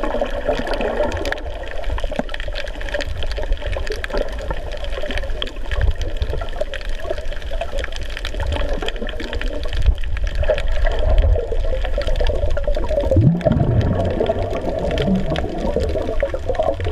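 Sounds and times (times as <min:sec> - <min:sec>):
low underwater rumbling: 0:00.0 - 0:16.9
underwater crackling clicks: 0:00.0 - 0:16.9
underwater rush: 0:00.0 - 0:16.9.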